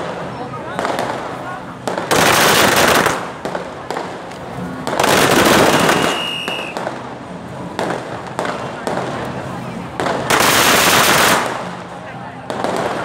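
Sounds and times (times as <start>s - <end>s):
firecrackers hissing and crackling: 0.0s - 13.0s.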